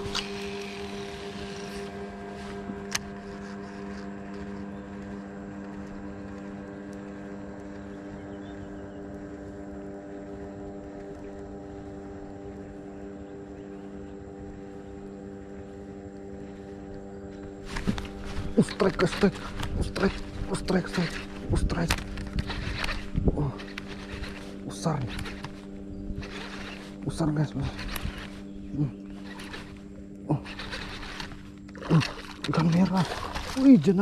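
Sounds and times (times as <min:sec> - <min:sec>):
small boat engine droning: 0:00.0 - 0:34.0.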